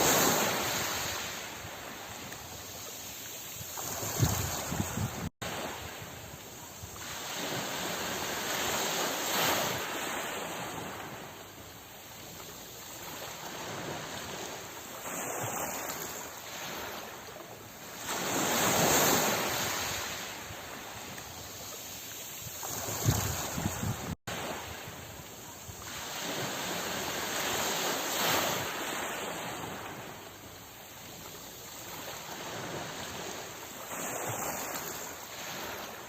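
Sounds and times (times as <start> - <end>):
ocean waves washing ashore: 0.0 - 36.0
waves breaking: 0.0 - 36.0.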